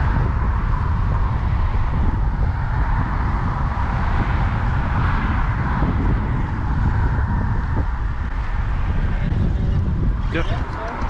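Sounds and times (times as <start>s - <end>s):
traffic tyre noise: 0.0s - 11.0s
wind rumbling on microphone: 0.0s - 11.0s.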